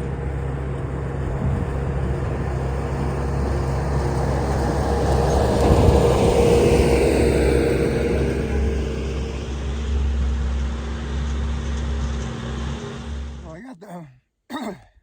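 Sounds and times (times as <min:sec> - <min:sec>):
skid steer engine droning: 0:00.0 - 0:13.4.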